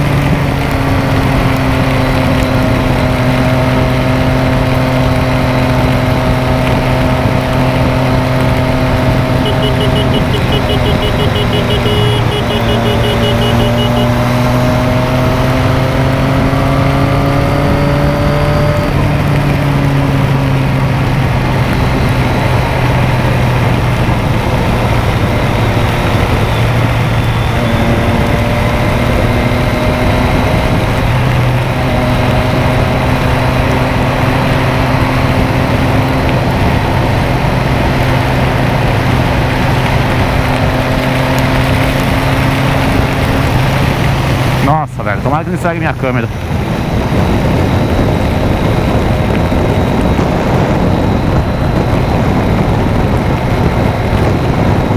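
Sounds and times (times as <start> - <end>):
motorcycle engine running: 0.0 - 54.9
rush of wind: 0.0 - 54.9.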